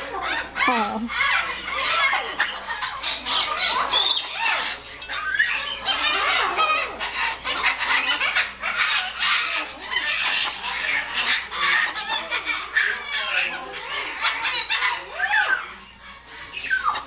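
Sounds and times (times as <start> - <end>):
parrot chattering and squawking: 0.0 - 17.0.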